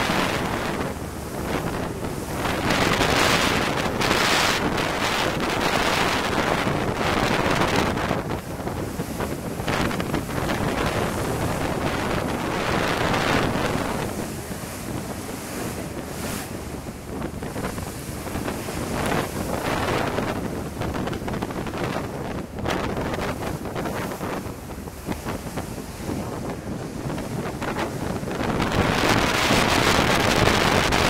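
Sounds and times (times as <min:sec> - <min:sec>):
water wash foaming along hull: 0:00.0 - 0:31.0
wind buffeting microphone: 0:00.0 - 0:31.0.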